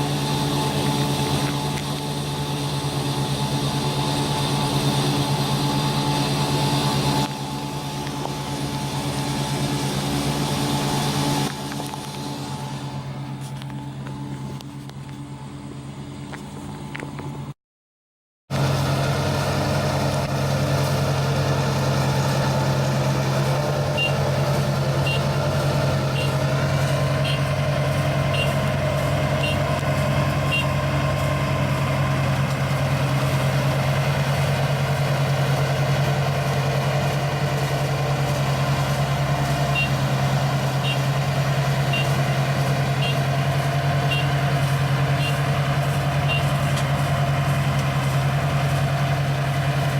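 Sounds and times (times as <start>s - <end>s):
combine harvester engine running: 0.0s - 17.5s, 18.5s - 49.9s.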